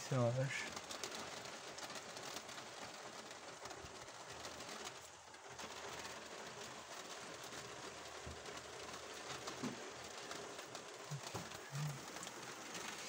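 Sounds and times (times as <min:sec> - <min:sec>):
rain pattering on a roof window: 0:00.0 - 0:13.0.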